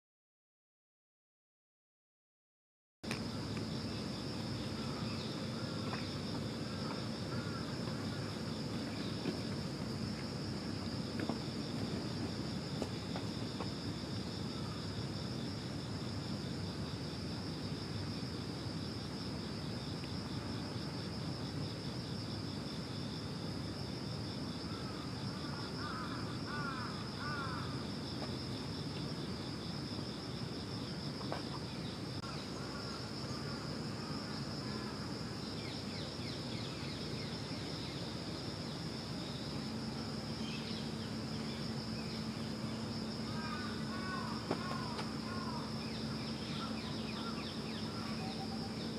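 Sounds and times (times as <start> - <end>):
insects trilling: 3.1 - 48.9.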